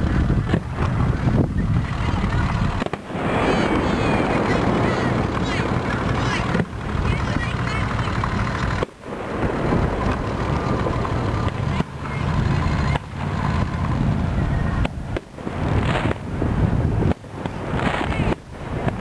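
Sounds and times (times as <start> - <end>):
fireworks exploding: 0.0 - 19.0
wind rumble on microphone: 0.0 - 19.0.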